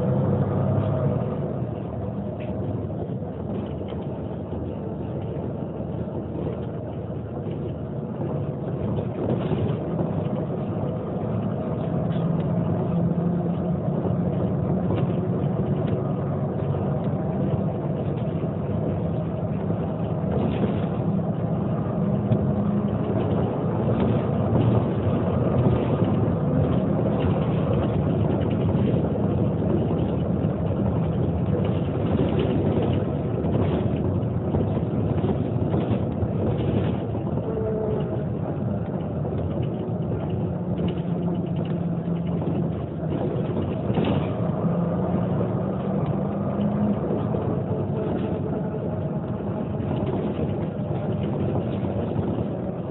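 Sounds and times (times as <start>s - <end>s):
bus engine drone: 0.0s - 52.9s.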